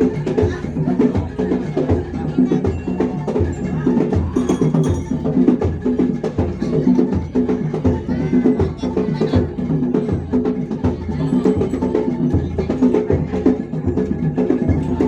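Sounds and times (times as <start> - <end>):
low drum beat: 0.0 - 15.0
pitched percussion strokes: 0.0 - 15.0.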